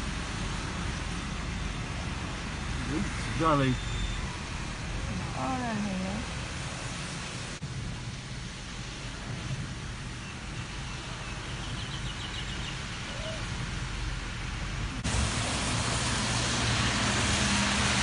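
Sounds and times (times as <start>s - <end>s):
rushing water noise: 0.0s - 18.0s
traffic engine hum: 0.0s - 18.0s
tyres washing through water: 0.0s - 18.0s.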